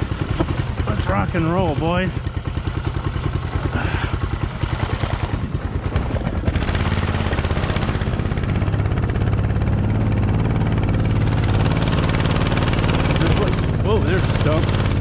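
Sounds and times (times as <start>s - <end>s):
small gas engine putting: 0.0s - 15.0s.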